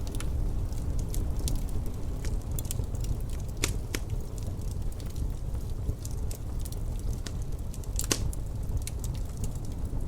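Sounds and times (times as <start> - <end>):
fire pops and snaps: 0.0 - 10.0
wood fire crackling: 0.0 - 10.0.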